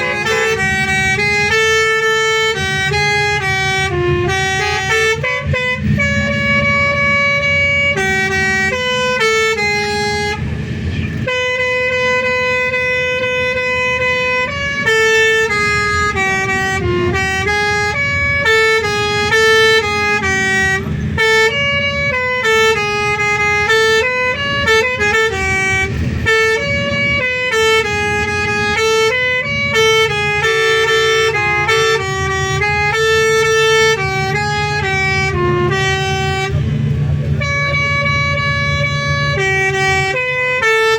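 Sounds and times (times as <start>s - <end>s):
multi-tone musical bus horn: 0.0s - 40.9s.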